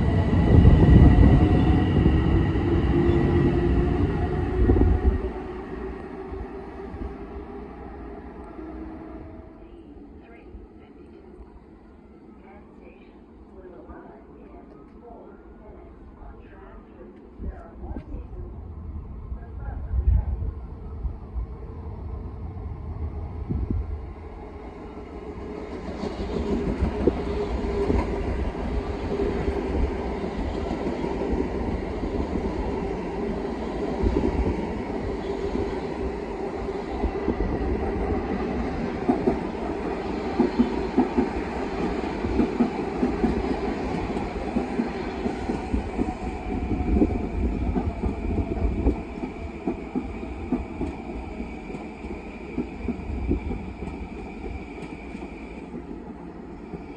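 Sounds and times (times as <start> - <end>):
train passing at speed: 0.0 - 56.9.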